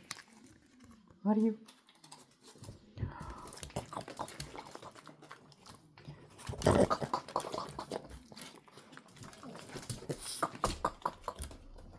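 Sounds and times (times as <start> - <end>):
dog chewing food: 1.8 - 11.9.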